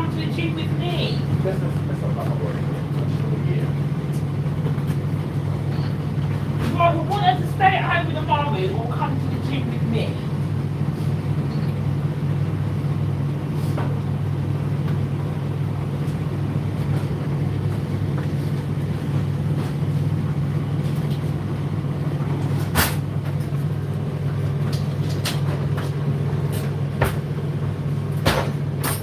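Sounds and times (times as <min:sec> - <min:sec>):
tumble dryer humming: 0:00.0 - 0:29.0.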